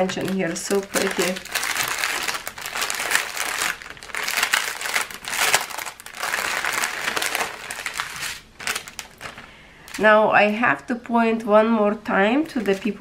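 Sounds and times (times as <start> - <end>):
plastic bags crinkling: 0.0 - 10.1, 12.4 - 13.0.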